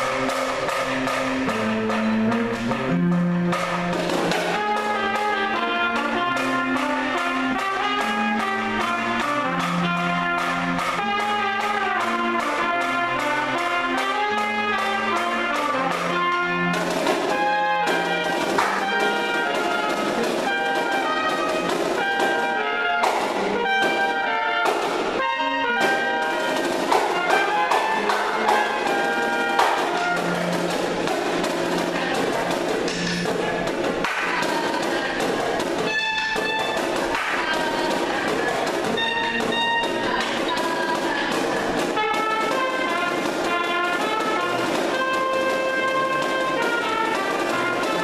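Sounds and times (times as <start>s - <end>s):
clarinet: 0.0s - 30.8s, 35.8s - 48.0s
steady drum beat: 0.0s - 48.0s
trumpets: 0.0s - 48.0s.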